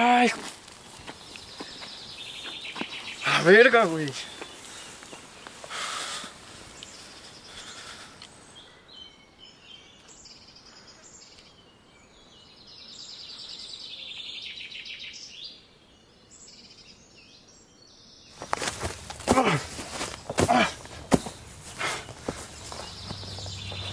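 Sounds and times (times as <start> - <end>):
birds chirping: 0.0 - 23.9
faint outdoor background noise: 0.0 - 23.9.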